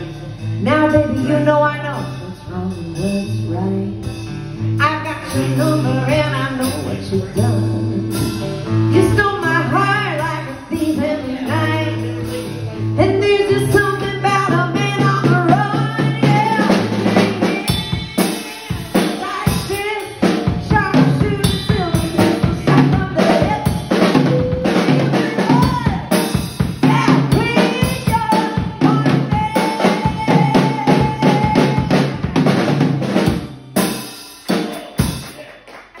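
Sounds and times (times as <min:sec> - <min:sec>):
drum kit beat: 0:00.0 - 0:36.0.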